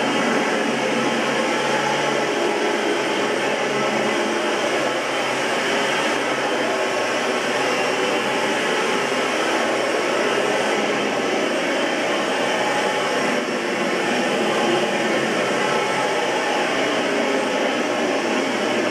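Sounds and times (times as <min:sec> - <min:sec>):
vacuum cleaner running: 0:00.0 - 0:18.9.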